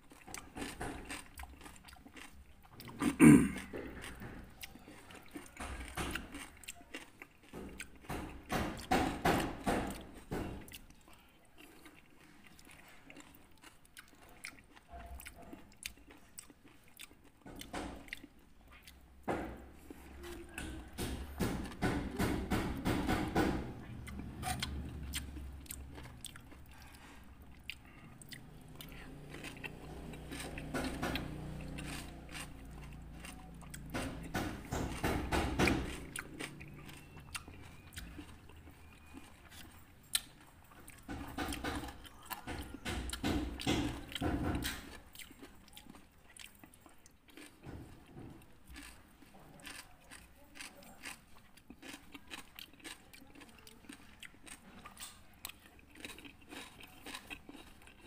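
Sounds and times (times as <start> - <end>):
chewing crunchy fruit: 0.0 - 58.0.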